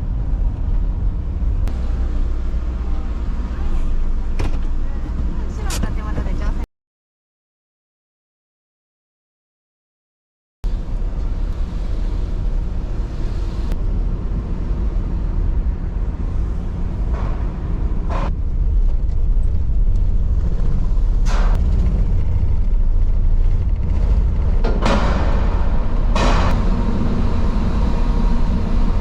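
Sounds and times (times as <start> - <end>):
vehicle engine low rumble: 0.0 - 6.7, 10.6 - 29.0.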